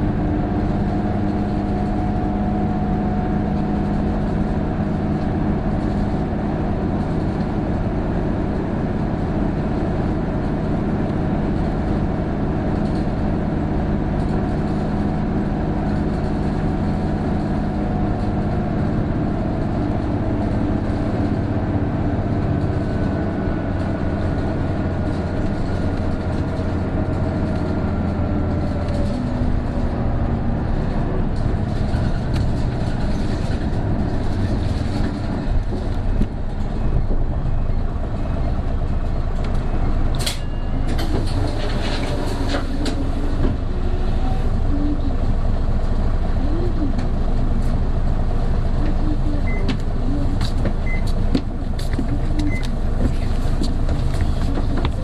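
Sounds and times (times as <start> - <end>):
bus engine pulling uphill: 0.0 - 55.0.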